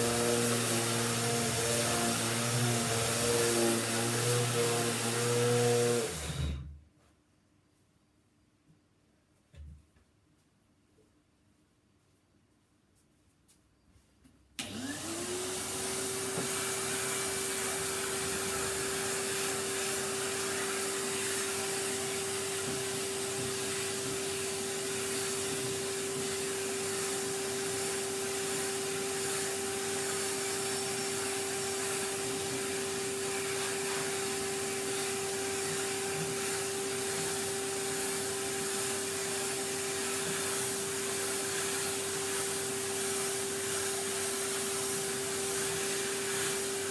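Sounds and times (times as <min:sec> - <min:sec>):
vacuum cleaner running: 0:00.0 - 0:06.8, 0:14.6 - 0:46.9.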